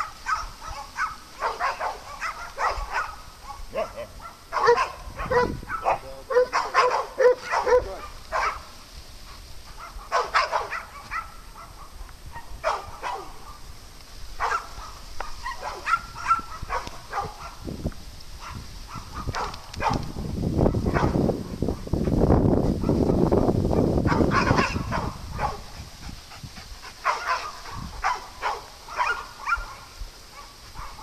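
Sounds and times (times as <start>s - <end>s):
dogs barking: 0.0s - 8.7s, 9.3s - 13.7s, 14.4s - 17.7s, 18.4s - 21.2s, 23.8s - 25.8s, 26.9s - 31.0s.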